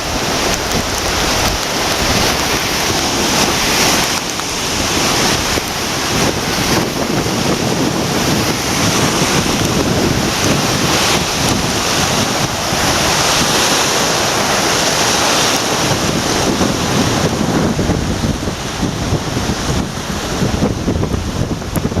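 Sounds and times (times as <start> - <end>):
rushing river water: 0.0 - 22.0
wind buffeting the microphone: 0.0 - 22.0.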